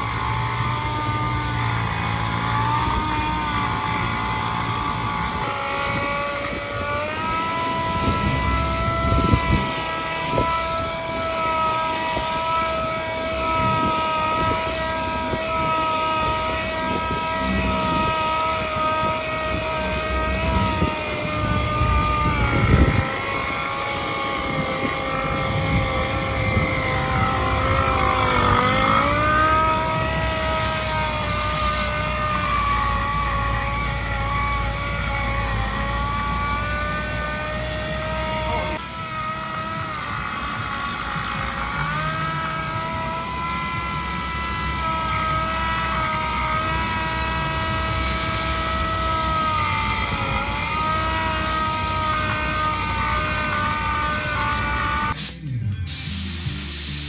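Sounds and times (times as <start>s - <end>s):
motor-driven machine whining: 0.0s - 57.0s.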